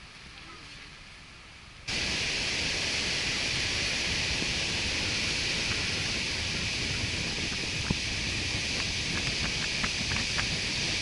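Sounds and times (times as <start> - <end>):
wind: 0.0 - 11.0
sea surf breaking: 1.9 - 11.0.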